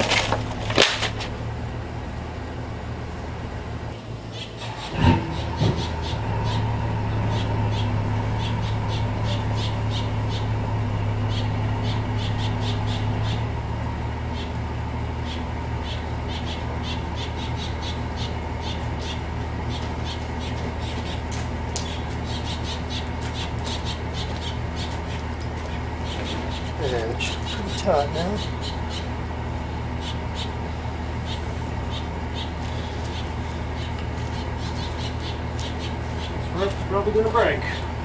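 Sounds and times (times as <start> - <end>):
truck engine straining: 0.0 - 38.0
bird squawking: 4.3 - 10.6, 11.2 - 13.5, 14.3 - 14.6, 15.2 - 29.2, 29.9 - 37.9.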